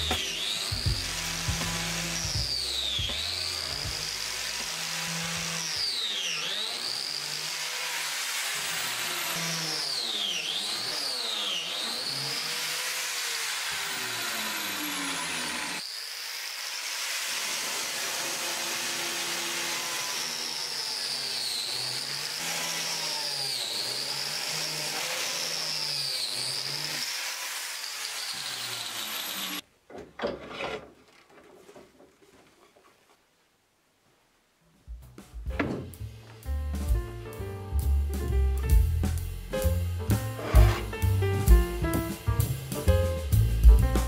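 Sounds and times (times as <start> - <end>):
plate joiner cutting wood: 0.0 - 32.8, 39.6 - 43.5.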